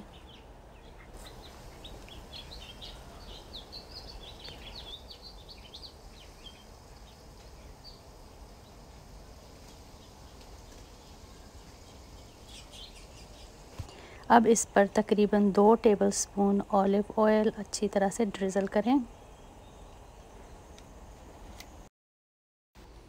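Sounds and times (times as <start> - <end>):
small birds chirping: 0.0 - 21.2
low steady hum: 0.0 - 21.9.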